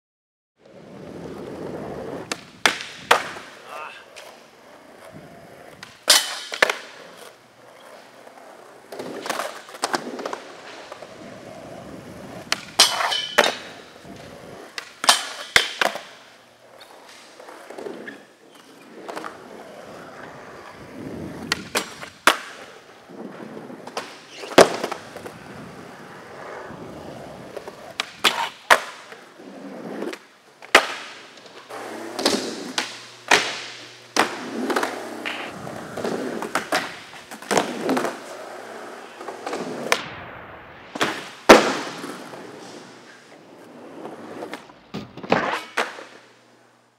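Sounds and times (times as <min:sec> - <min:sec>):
skateboard wheels rolling: 0:00.6 - 0:46.9
skateboard clacks: 0:01.0 - 0:40.1, 0:41.0 - 0:46.4.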